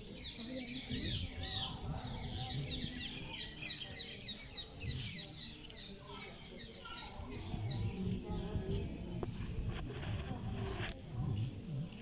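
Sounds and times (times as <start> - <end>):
birds chirping: 0.0 - 11.7.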